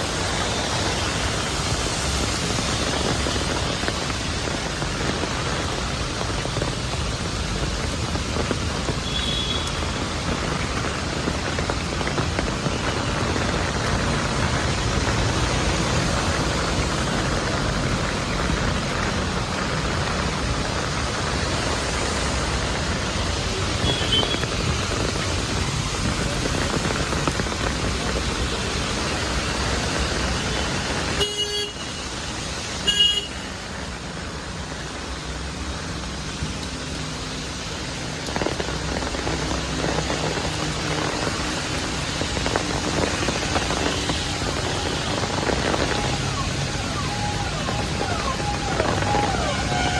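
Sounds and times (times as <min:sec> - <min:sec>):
passing traffic: 0:00.0 - 0:49.9
rain: 0:00.0 - 0:49.9.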